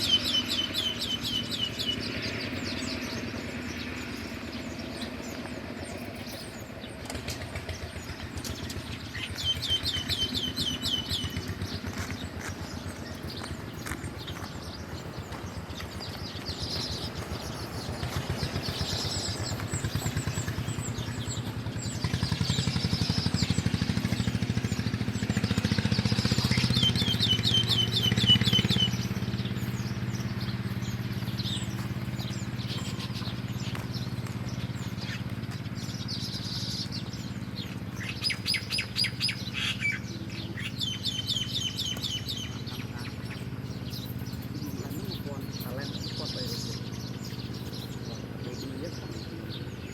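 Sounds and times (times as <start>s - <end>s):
bird trills: 0.0s - 49.9s
small birds chirping: 0.0s - 49.9s.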